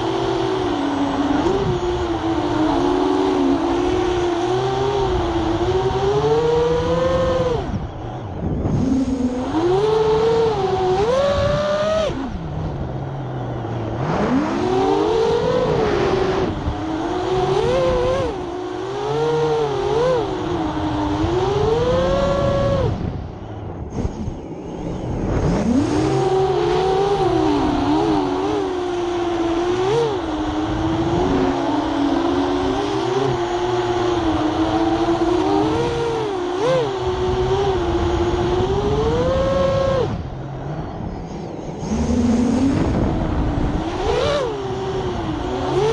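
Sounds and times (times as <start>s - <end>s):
quadcopter motors buzzing whine: 0.0s - 45.9s.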